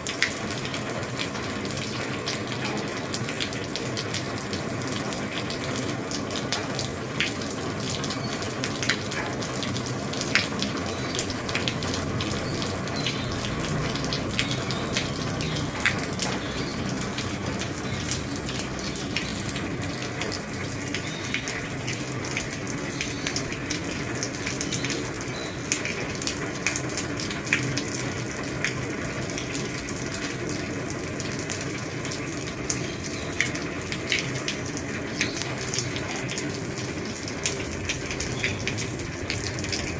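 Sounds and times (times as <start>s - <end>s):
heavy rain on a roof: 0.0s - 39.9s
sharp raindrop impacts: 0.0s - 39.9s.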